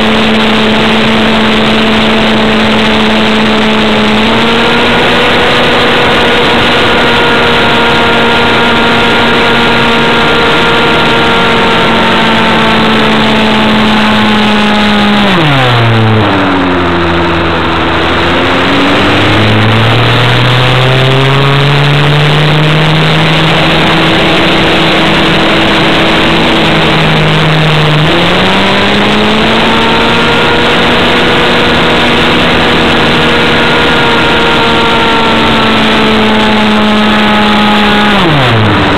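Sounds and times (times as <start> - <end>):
model airplane engine revving: 0.0 - 38.9.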